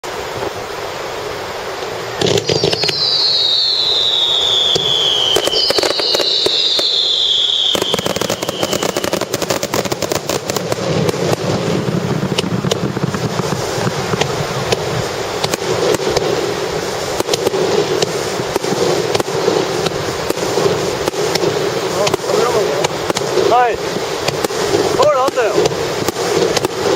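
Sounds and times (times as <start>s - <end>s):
firework bangs and crackles: 0.0s - 26.9s
firework falling whistle: 1.8s - 23.6s.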